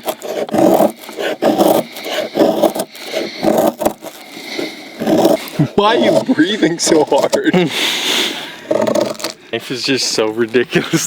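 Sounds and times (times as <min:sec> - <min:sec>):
knife shaving hardwood: 0:00.0 - 0:09.4.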